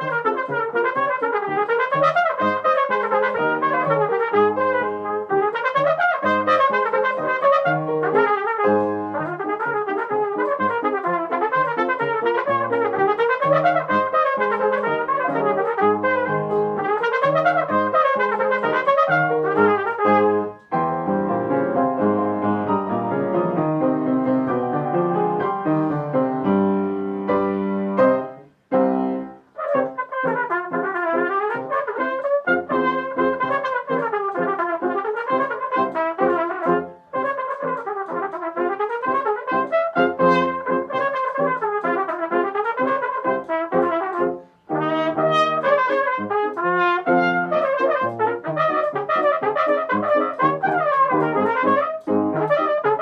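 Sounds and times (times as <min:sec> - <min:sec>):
solo trumpet playing: 0:00.0 - 0:53.0.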